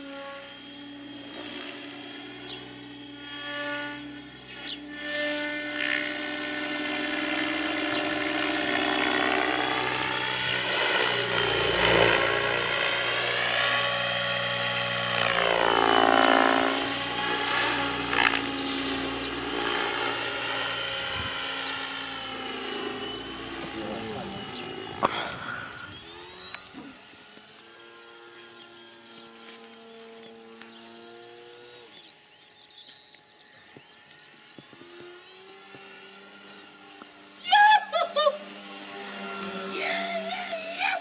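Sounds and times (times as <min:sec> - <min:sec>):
model helicopter rotor whine: 0:00.0 - 0:41.0.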